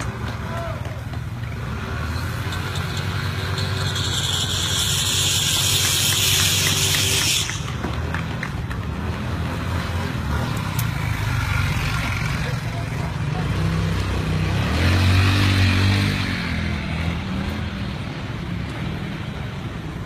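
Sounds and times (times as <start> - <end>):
motorbike engines rumbling: 0.0 - 20.0.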